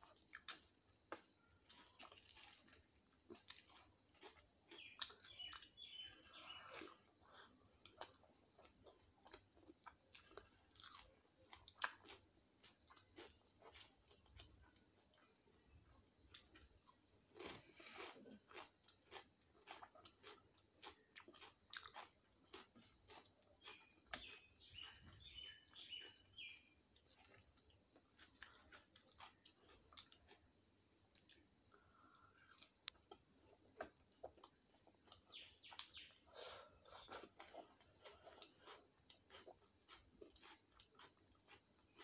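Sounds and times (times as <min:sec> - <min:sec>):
soft wet chewing: 0:00.0 - 0:42.0.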